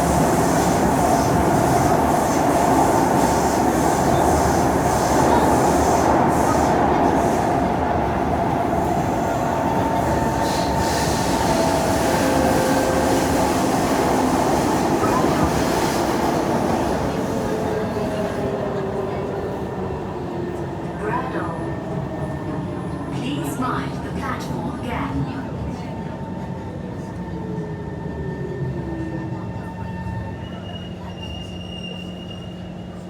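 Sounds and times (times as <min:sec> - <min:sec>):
metro train wheels rumbling on rail: 0:00.0 - 0:33.0.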